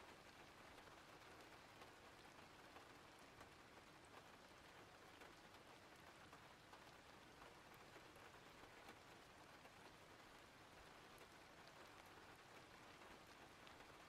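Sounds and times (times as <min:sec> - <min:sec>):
faint steady rain: 0:00.0 - 0:14.0.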